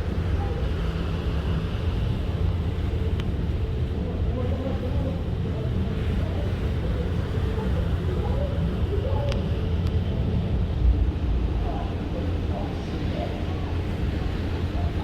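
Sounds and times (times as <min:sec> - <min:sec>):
faint indistinct voices: 0:00.0 - 0:15.0
ship engines droning: 0:00.0 - 0:15.0.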